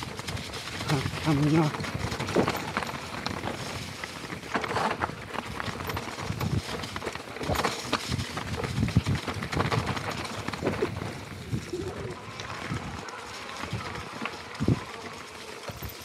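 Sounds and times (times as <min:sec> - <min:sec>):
bike rattling over rocks: 0:00.0 - 0:16.0
bike tyres rolling over stones: 0:00.0 - 0:16.0.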